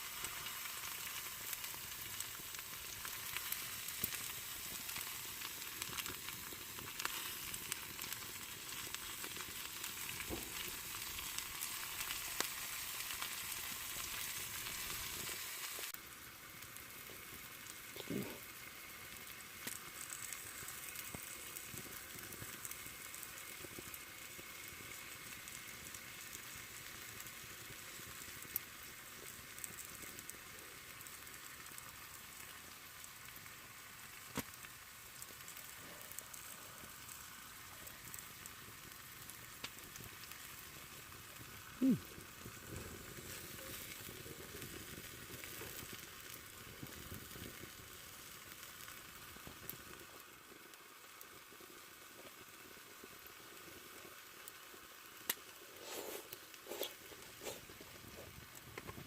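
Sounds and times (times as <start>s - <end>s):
sizzling hiss with crackles: 0.0s - 59.0s.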